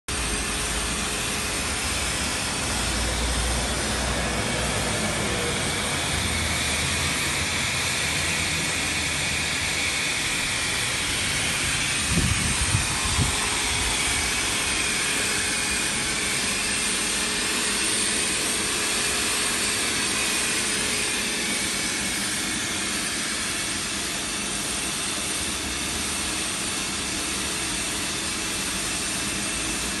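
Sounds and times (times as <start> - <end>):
paint sprayer turbine whine: 0.1 - 30.0.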